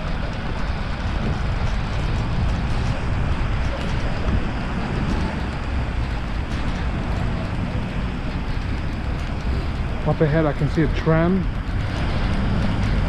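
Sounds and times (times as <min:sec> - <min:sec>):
rain ticking on camera: 0:00.0 - 0:13.0
wind buffeting microphone: 0:00.0 - 0:13.0.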